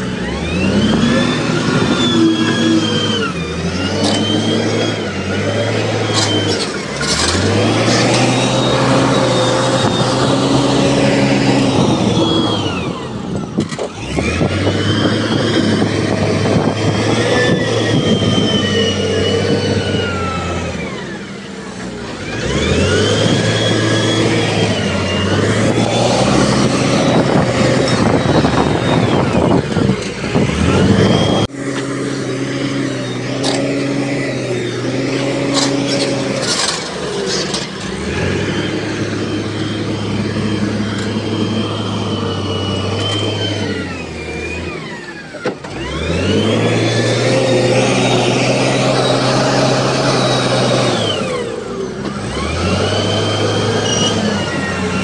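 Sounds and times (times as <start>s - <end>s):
heavy machinery diesel engine revving: 0.0s - 55.0s.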